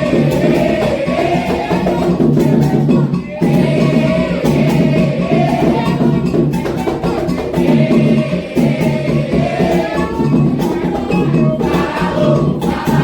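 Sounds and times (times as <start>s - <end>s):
group singing: 0.0s - 13.0s
hand drums: 0.0s - 13.0s
struck percussion: 0.0s - 13.0s.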